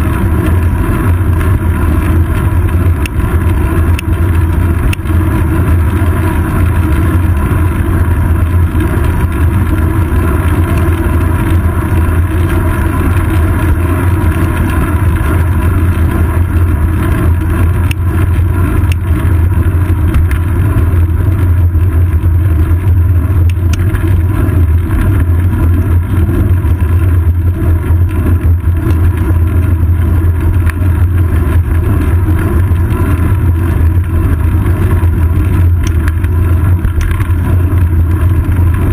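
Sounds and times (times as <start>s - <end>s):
low rumble of wind: 0.0s - 38.9s
road vibration rumble: 0.0s - 38.9s.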